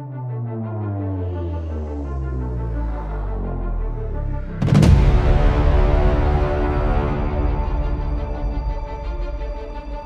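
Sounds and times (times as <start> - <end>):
heavy low bass: 0.6 - 10.0.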